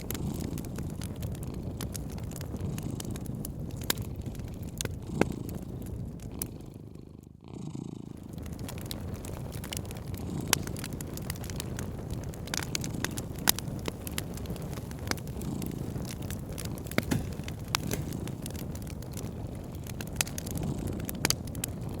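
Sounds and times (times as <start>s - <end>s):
wood fire crackling: 0.0s - 7.0s, 8.1s - 22.0s
cat purring: 0.0s - 22.0s.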